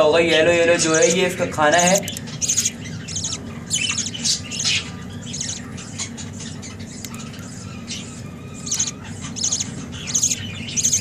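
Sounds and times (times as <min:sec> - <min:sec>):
budgerigars calling: 0:00.3 - 0:11.0.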